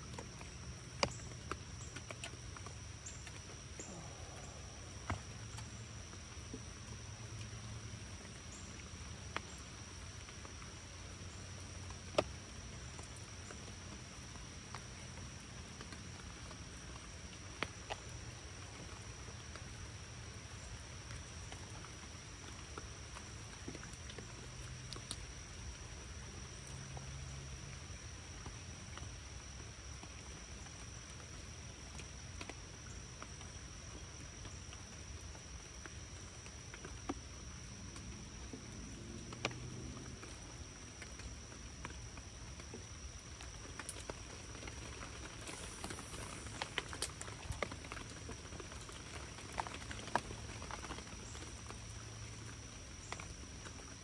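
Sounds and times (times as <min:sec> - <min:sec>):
raindrop ticks: 0:00.0 - 0:54.0
steady rain falling: 0:00.0 - 0:54.0.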